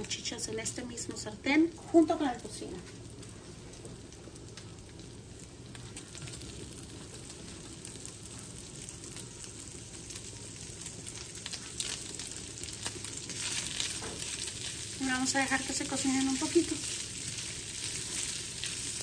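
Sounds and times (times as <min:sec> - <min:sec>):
bacon sizzling in a skillet: 0:00.0 - 0:19.0
crackling pops: 0:02.3 - 0:19.0.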